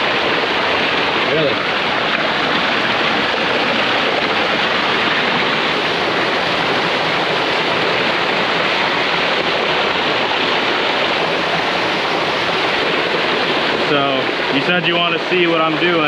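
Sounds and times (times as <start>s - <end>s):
water rushing over boulders: 0.0s - 16.0s.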